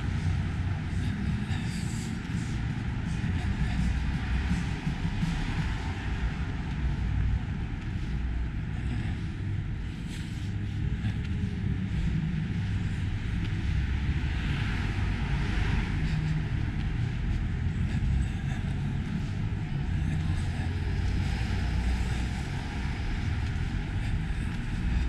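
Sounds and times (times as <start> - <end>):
city street ambience: 0.0 - 25.0.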